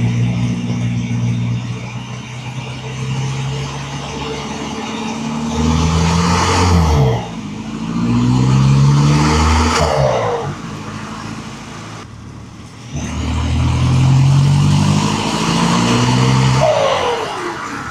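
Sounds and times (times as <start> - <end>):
diesel engine revving: 0.0 - 17.9.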